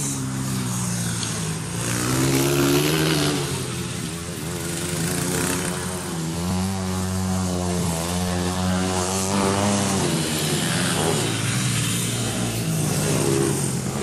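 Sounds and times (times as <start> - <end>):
dirt bike engines passing: 0.0 - 14.0.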